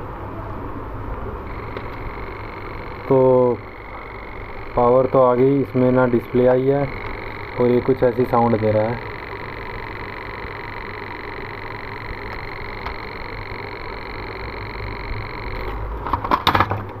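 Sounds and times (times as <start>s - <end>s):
high-pitched electronic buzz: 1.3s - 16.0s.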